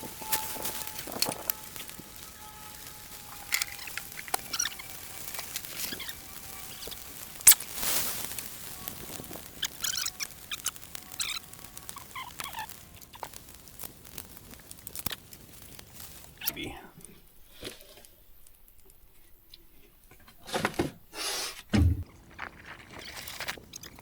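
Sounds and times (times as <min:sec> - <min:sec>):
rustling and scratching: 0:00.0 - 0:24.0.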